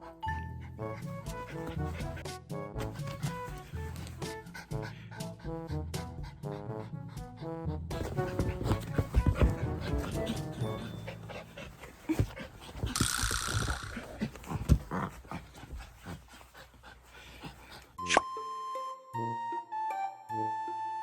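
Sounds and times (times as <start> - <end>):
background music: 0.0 - 21.0
dog panting and snuffling: 0.5 - 18.1.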